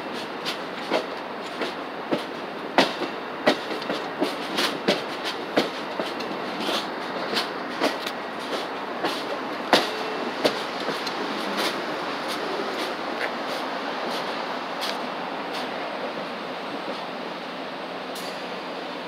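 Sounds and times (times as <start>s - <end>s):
wheels clicking over rail joints: 0.0s - 15.8s
train wheels rumbling on rails: 0.0s - 19.0s.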